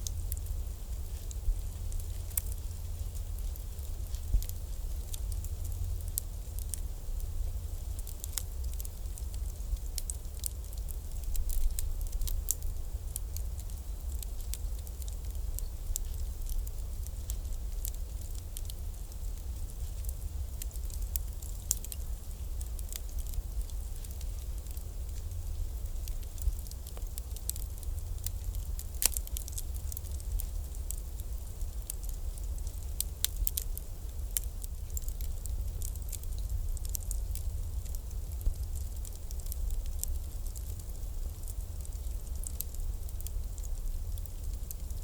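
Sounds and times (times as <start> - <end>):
bonfire crackling and popping: 0.0 - 45.0.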